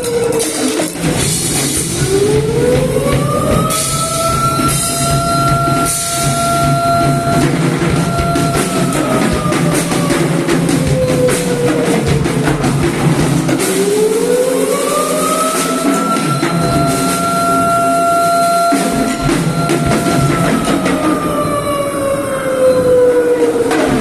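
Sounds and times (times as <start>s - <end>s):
fast dense drumming: 0.0s - 21.5s
siren-like wailing tone: 0.0s - 24.0s.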